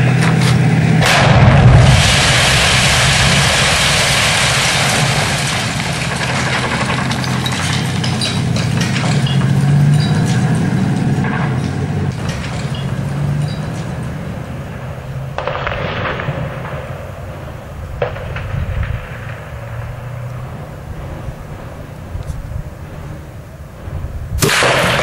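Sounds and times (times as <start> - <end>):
heavy explosion with rumble: 0.0 - 25.0
sharp crack: 0.0 - 25.0
steady engine hum: 0.0 - 25.0.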